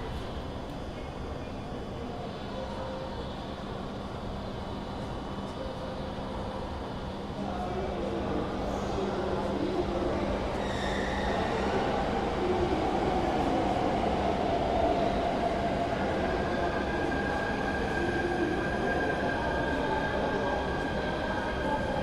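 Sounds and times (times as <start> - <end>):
train car hum and rumble: 0.0 - 22.0.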